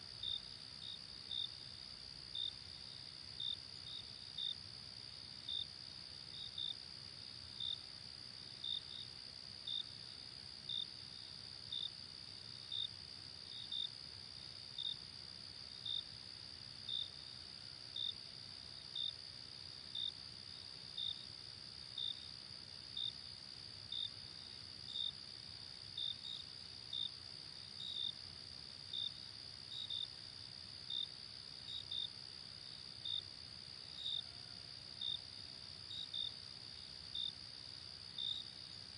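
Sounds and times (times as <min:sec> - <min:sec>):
insect chirping: 0:00.2 - 0:38.9.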